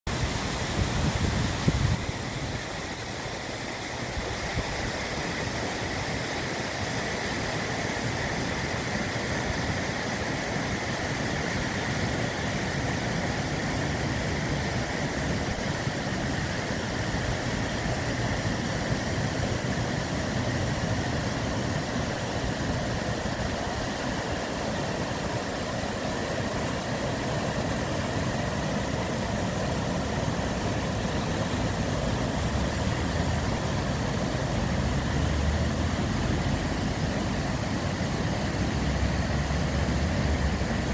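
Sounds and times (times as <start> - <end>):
water rushing over stone dam: 0.1 - 40.9.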